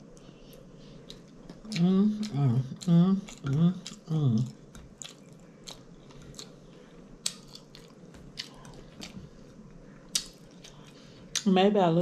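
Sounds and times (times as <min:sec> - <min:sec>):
soft chewing: 0:00.0 - 0:11.5.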